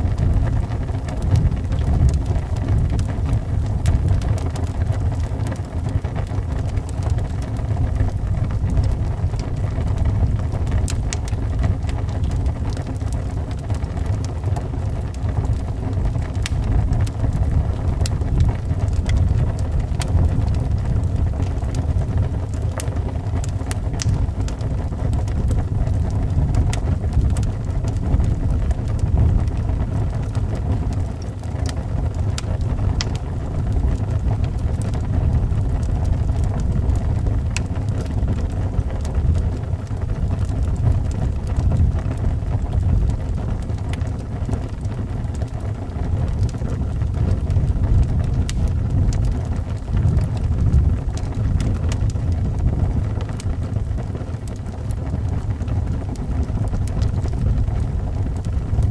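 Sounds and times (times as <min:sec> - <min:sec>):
low rumble of wind: 0:00.0 - 0:58.9
wood fire crackling: 0:00.0 - 0:58.9.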